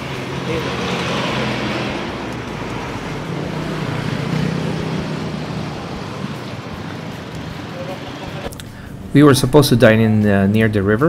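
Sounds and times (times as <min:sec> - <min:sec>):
vehicle engine running: 0:00.0 - 0:09.4
road noise: 0:00.0 - 0:11.0.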